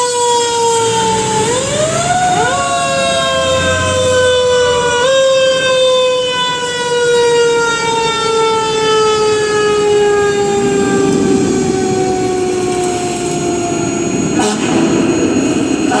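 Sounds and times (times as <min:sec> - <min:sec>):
fire truck siren: 0:00.0 - 0:16.0
truck engine rumbling: 0:00.0 - 0:16.0.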